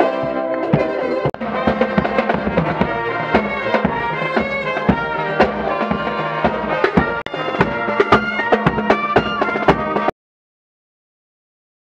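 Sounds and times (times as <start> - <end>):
marching band playing: 0.0 - 10.1.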